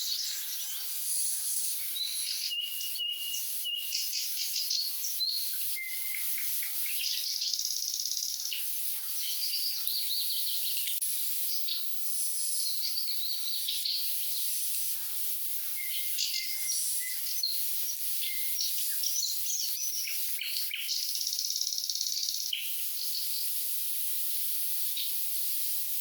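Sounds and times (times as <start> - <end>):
nightingales singing trills: 0.0 - 14.9, 15.6 - 23.5.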